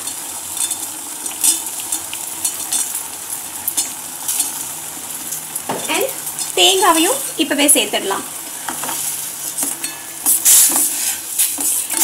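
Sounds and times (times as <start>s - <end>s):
syrup boiling with bubbling crackle: 0.0s - 12.0s.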